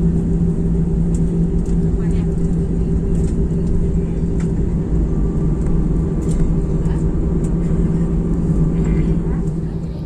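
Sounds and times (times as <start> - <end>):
airplane cabin engine drone: 0.0 - 10.0.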